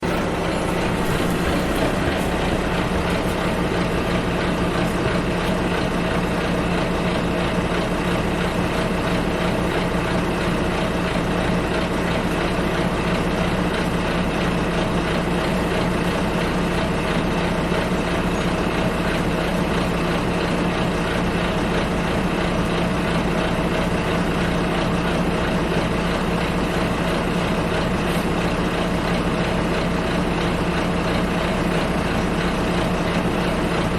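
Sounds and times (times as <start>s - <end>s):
bus engine drone: 0.0s - 33.9s.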